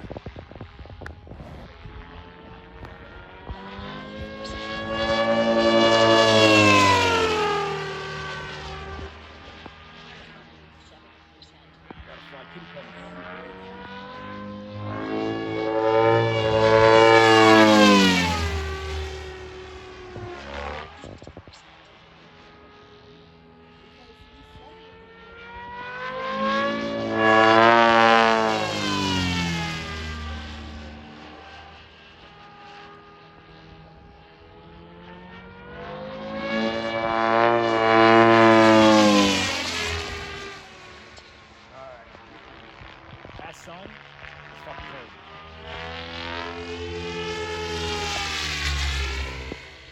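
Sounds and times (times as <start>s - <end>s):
rc helicopter rotor and motor whine: 0.0s - 49.9s.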